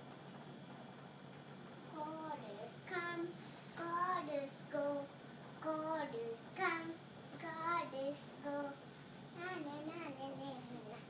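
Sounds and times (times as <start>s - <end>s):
child singing unaccompanied: 1.9s - 11.0s.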